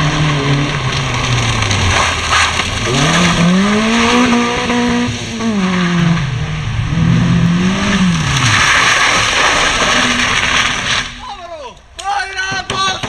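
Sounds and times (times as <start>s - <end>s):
rally car engine revving: 0.0s - 11.2s.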